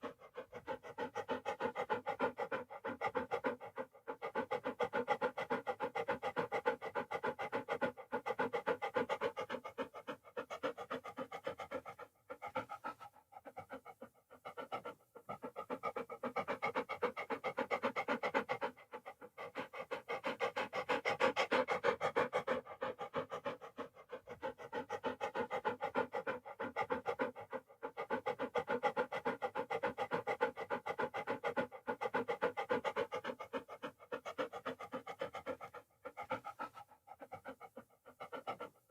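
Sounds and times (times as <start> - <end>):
dog panting: 0.0 - 38.9.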